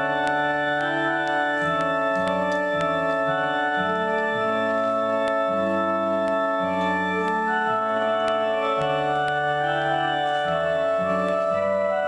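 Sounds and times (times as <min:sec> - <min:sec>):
organ music: 0:00.0 - 0:12.0.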